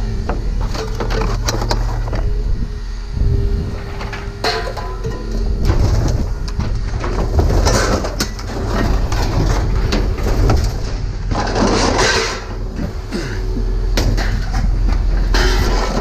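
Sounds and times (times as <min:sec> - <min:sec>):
heavy machinery engine rumble: 0:00.0 - 0:16.0
scrap metal clattering and scraping: 0:00.3 - 0:02.4, 0:03.6 - 0:16.0.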